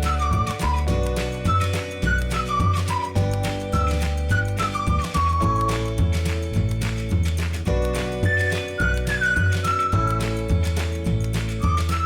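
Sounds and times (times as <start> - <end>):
cheerful music with bouncy bass: 0.0 - 12.0.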